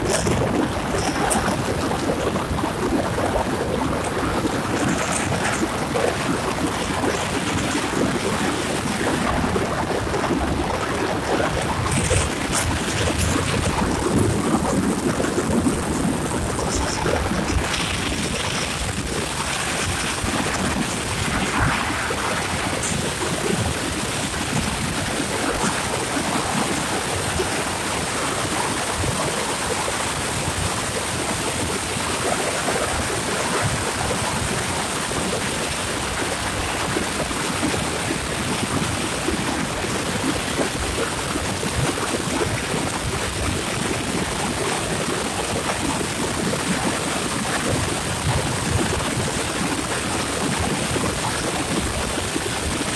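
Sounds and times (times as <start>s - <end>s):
wind noise on microphone: 0.0s - 52.9s.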